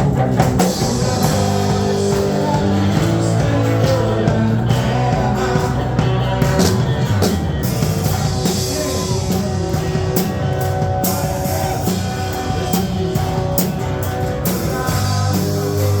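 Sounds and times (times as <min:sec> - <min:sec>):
drum kit: 0:00.0 - 0:16.0
guitar: 0:00.0 - 0:16.0
praise song with band: 0:00.0 - 0:16.0.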